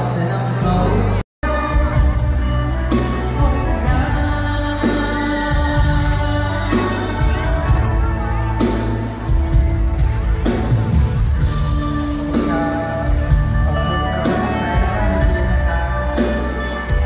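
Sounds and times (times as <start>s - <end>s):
guitar: 0.0s - 17.0s
live band music: 0.0s - 17.0s.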